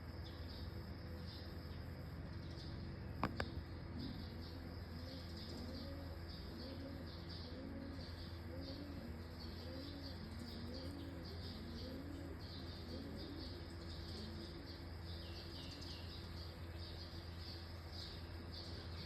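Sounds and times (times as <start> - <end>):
birds chirping: 0.0 - 19.0
steady low hum: 0.0 - 19.0
bird cooing: 3.2 - 19.0.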